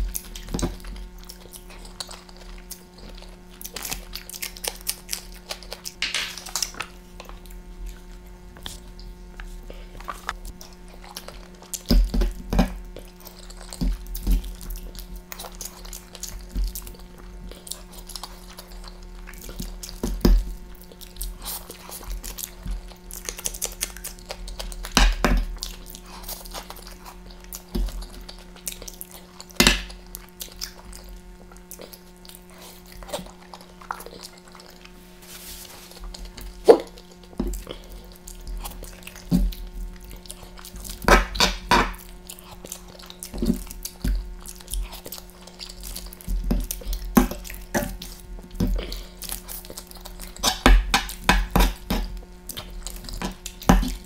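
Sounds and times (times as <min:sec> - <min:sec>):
wet chewing and smacking: 0:00.0 - 0:35.0, 0:35.9 - 0:54.0
steady low hum: 0:00.0 - 0:54.0.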